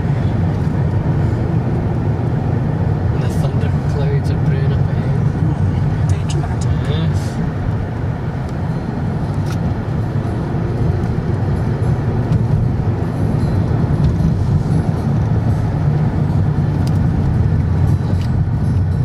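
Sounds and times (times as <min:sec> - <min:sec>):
car engine drone: 0:00.0 - 0:19.0
tyres on road: 0:00.0 - 0:19.0.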